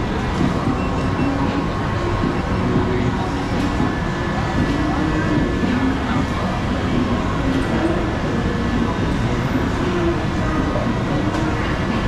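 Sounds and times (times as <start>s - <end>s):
hum of fans and equipment: 0.0s - 12.0s
indistinct crowd chatter: 0.0s - 12.0s.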